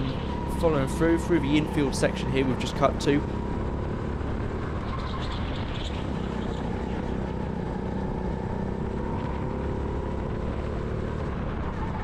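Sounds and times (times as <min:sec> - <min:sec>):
kart engine running: 0:00.0 - 0:12.0.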